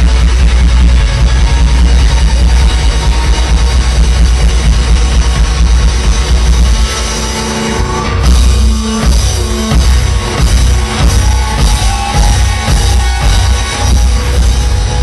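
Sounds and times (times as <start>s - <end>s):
bass guitar: 0.0s - 15.0s
drum kit: 0.0s - 15.0s
electric guitars: 0.0s - 15.0s.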